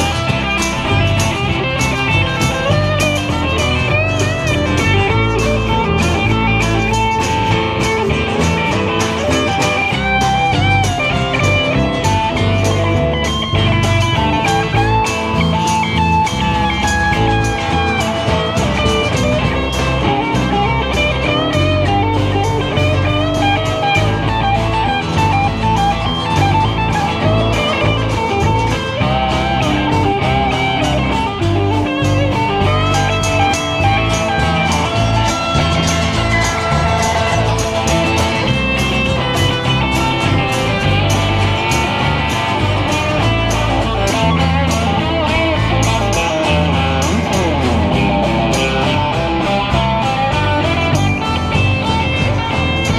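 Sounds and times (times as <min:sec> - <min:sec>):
live band playing: 0:00.0 - 0:52.9.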